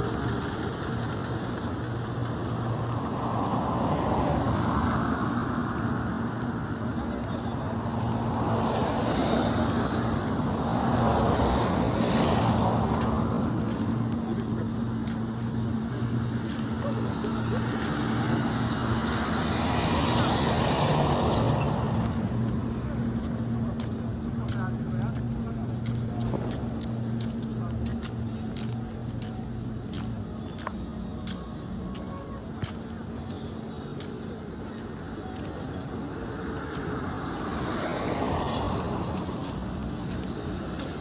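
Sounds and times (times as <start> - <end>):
cars passing: 0.0 - 41.0
engine hum of traffic: 0.0 - 41.0.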